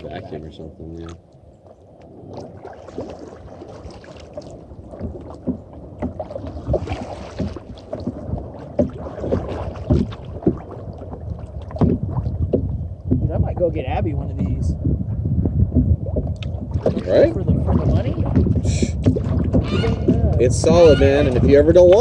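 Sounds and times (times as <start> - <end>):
paddle splashing in water: 0.0 - 13.4, 15.6 - 22.0
paddle knocking on hull: 2.4 - 22.0.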